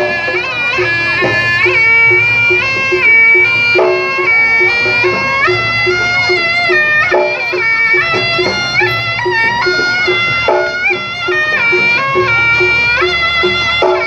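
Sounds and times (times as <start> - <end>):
percussion pulse: 0.0 - 14.0
shrill shawm melody: 0.0 - 14.0.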